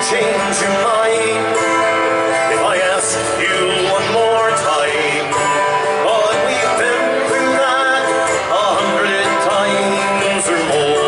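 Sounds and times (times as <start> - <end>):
man singing: 0.0 - 11.0
mandolin and guitar playing: 0.0 - 11.0.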